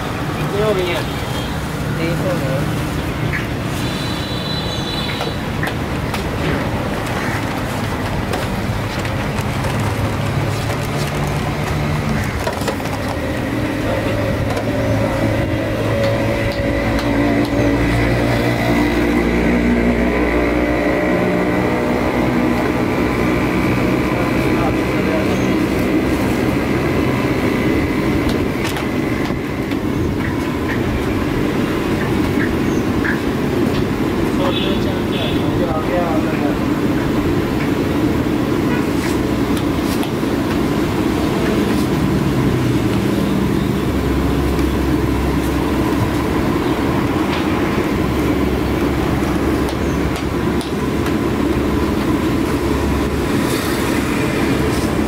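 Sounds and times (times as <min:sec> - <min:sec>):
roadside traffic noise: 0:00.0 - 0:55.0
vehicle engine hum: 0:00.0 - 0:55.0.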